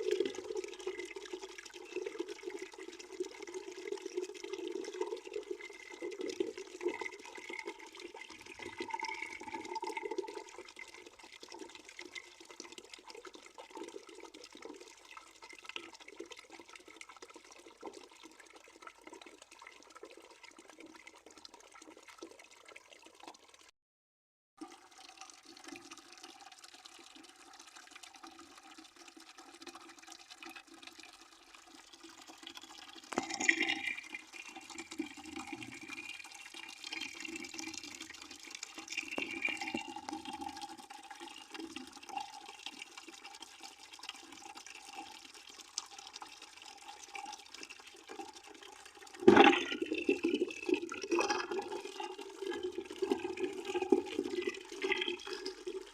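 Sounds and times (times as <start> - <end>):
water pouring into a bucket: 0.0 - 23.7, 24.6 - 55.9.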